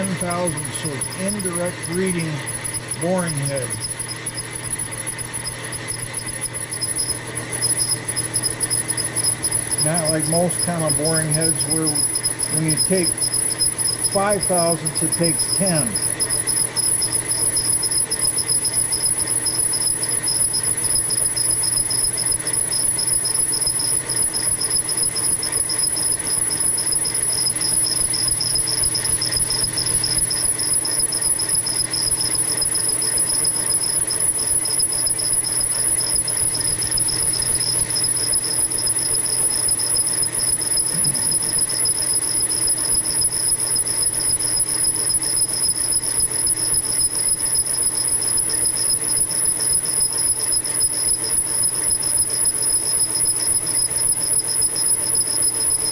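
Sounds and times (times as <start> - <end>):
milling machine hum: 0.0 - 50.0
high-pitched machine whine: 0.0 - 55.9.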